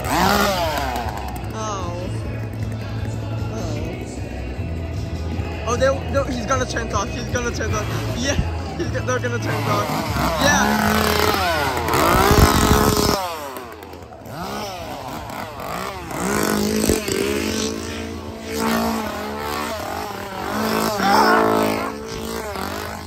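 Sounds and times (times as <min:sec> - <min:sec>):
chainsaws revving: 0:00.0 - 0:23.0.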